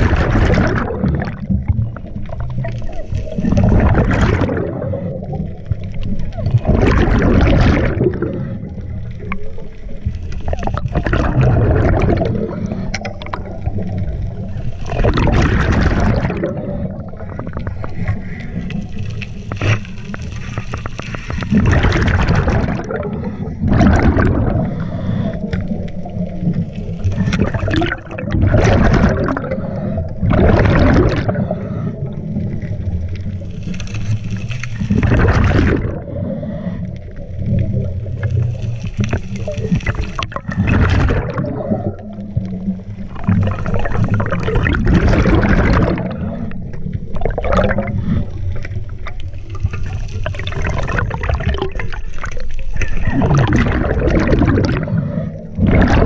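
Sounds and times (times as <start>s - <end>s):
exhaled bubbles rushing: 0.0s - 56.0s.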